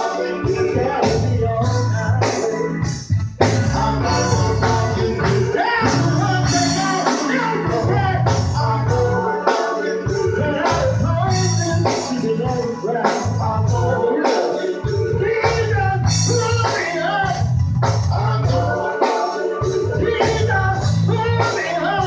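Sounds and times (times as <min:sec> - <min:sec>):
band music with singing: 0:00.0 - 0:22.0.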